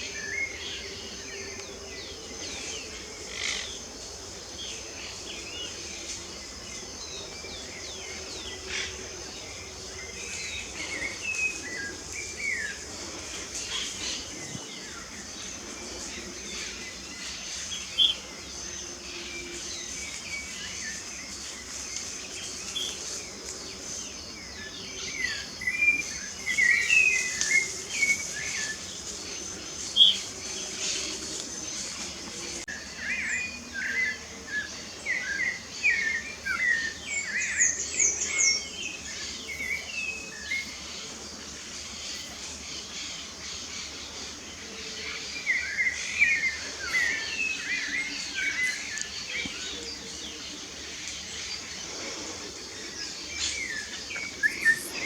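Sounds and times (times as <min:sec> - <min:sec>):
high-pitched insect hum: 0:00.0 - 0:55.0
birds chirping and singing: 0:04.6 - 0:55.0.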